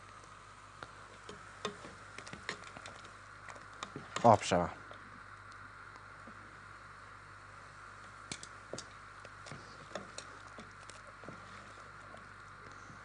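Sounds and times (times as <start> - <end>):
faint ticks and clicks: 0.0 - 6.4, 8.0 - 13.0
steady low hiss: 0.0 - 13.0.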